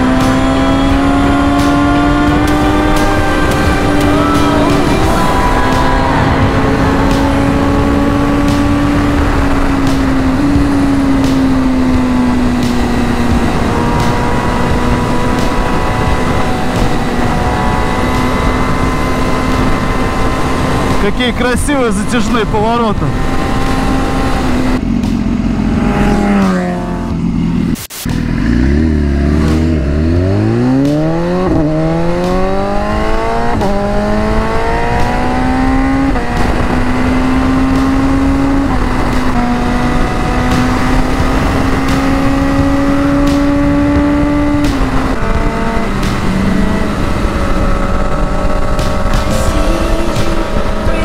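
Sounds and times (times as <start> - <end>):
motorcycle engine accelerating: 0.0 - 51.0
wind and road noise: 0.0 - 51.0.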